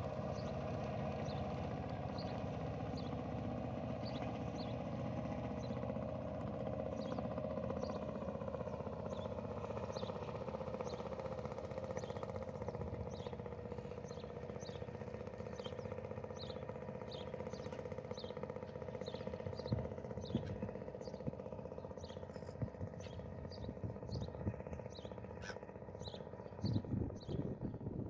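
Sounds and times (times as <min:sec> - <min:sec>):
outboard motor humming: 0:00.0 - 0:28.0.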